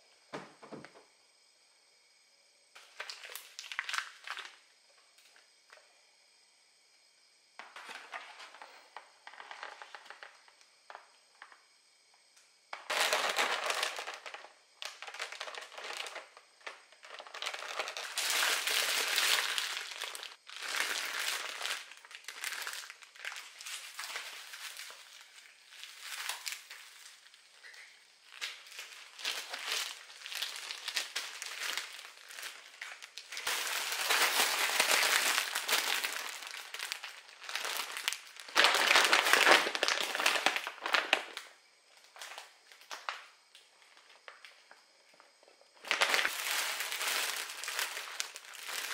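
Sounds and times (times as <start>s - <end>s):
plastic packaging crinkling: 2.8s - 4.6s, 7.6s - 11.0s, 12.8s - 44.7s, 45.8s - 48.9s.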